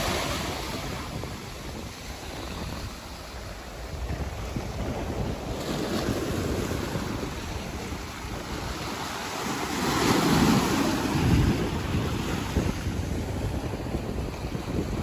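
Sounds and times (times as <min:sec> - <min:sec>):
ocean surf washing ashore: 0:00.0 - 0:15.0
wind buffeting microphone: 0:00.0 - 0:15.0.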